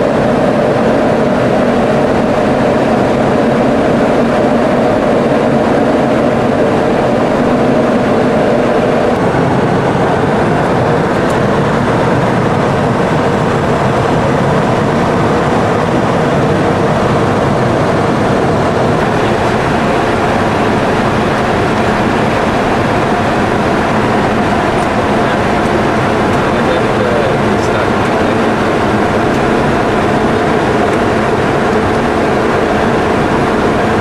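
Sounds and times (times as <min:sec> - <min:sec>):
cockpit hum: 0:00.0 - 0:34.0
jet engine and airflow rush: 0:00.0 - 0:34.0.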